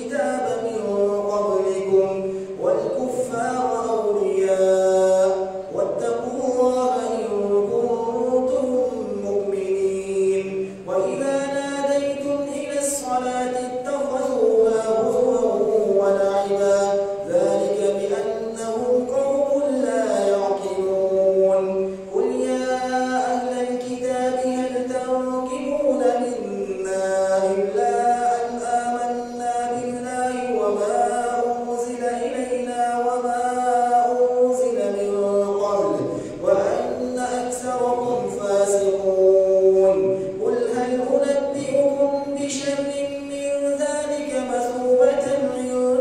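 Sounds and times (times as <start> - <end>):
man chanting recitation: 0.0 - 46.0.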